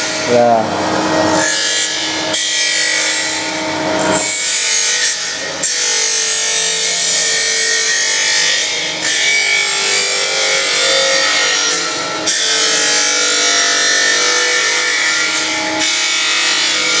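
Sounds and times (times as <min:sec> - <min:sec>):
grinding wheel rasping on steel: 0:01.0 - 0:17.0.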